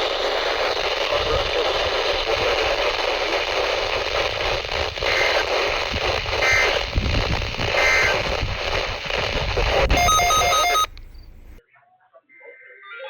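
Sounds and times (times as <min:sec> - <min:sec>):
radio static hiss: 0:00.0 - 0:11.6.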